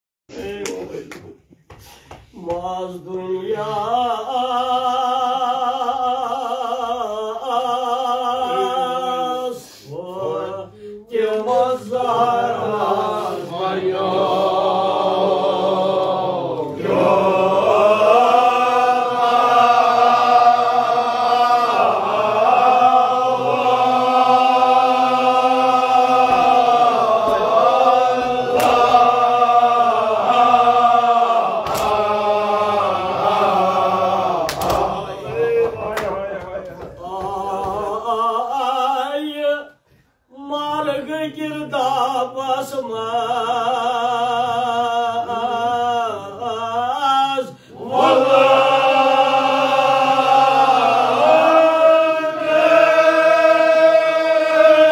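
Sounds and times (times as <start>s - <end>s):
men chanting together: 2.2s - 54.9s.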